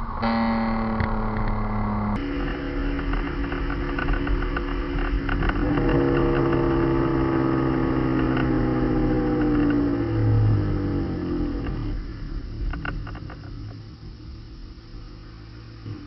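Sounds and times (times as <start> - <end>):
car engine through straight pipes: 0.0 - 16.0
exhaust crackles: 0.0 - 16.0.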